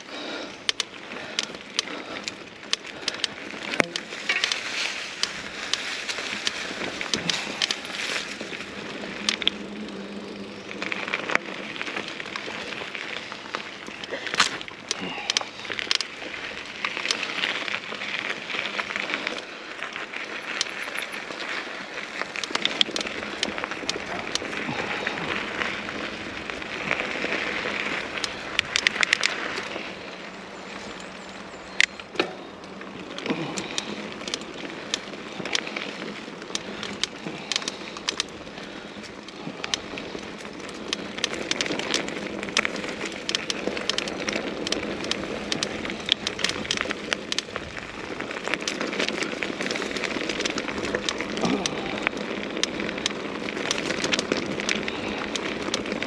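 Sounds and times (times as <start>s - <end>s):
bike clicks and rattles: 0.0s - 56.0s
tyres rolling over gravel: 0.0s - 56.0s.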